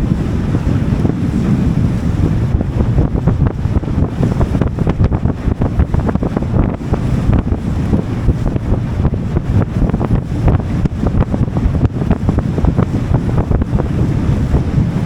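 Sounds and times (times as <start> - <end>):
water rushing under boat: 0.0 - 15.0
wind buffeting microphone: 0.0 - 15.0.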